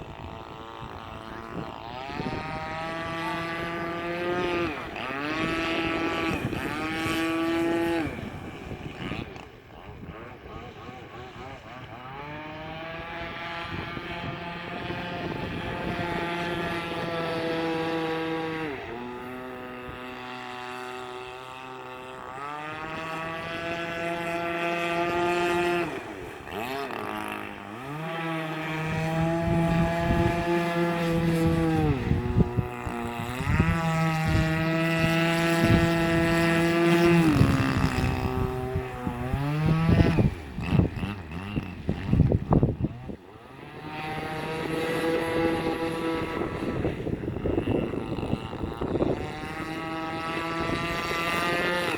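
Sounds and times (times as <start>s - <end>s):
two-stroke engine revving: 0.0s - 51.9s.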